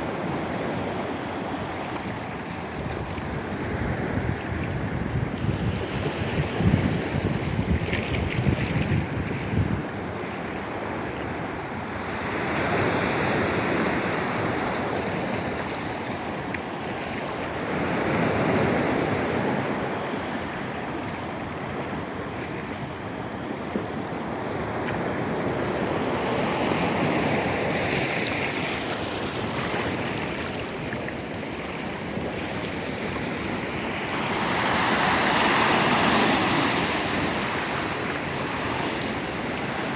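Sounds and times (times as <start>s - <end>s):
surf washing onto shore: 0.0s - 39.9s
wind buffeting microphone: 0.0s - 39.9s.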